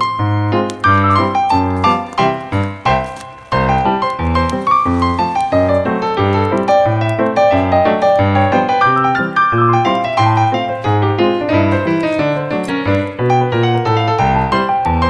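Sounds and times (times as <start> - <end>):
piano music with bass line: 0.0 - 15.0.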